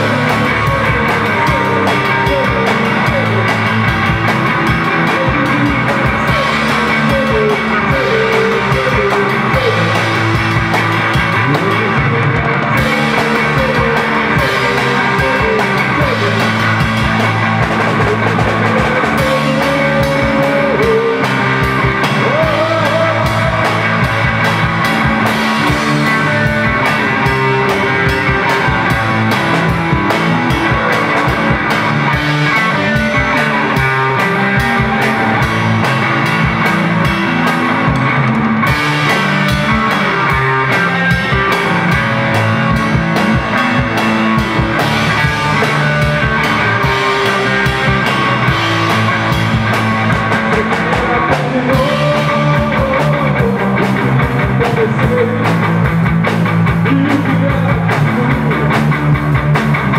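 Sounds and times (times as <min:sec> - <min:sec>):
drum kit beat: 0:00.0 - 0:59.9
electric guitars: 0:00.0 - 0:59.9
live rock band: 0:00.0 - 0:59.9.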